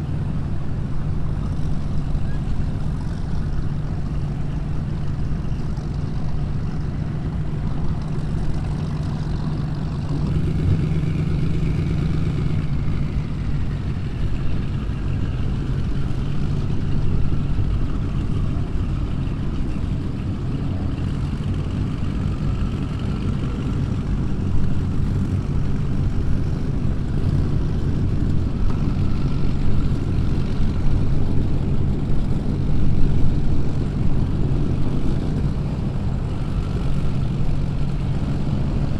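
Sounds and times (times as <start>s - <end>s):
powerboat engines rumbling: 0.0s - 38.9s.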